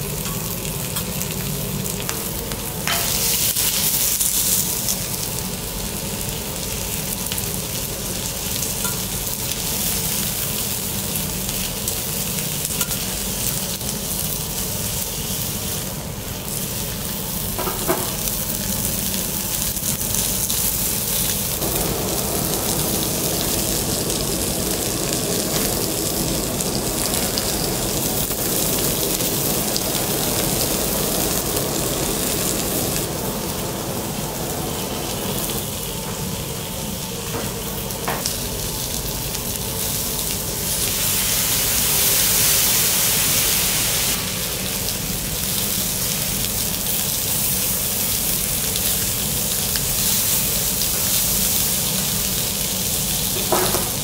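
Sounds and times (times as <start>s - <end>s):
seafood sizzling on griddle: 0.0s - 54.0s.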